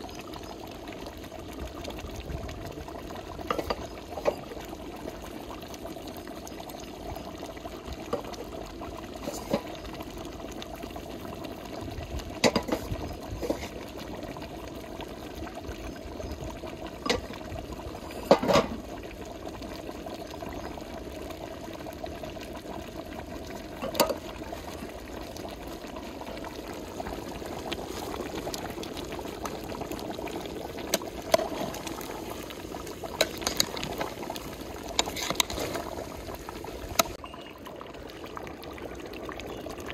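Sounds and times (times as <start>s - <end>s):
broth bubbling in a metal pot: 0.0s - 39.9s.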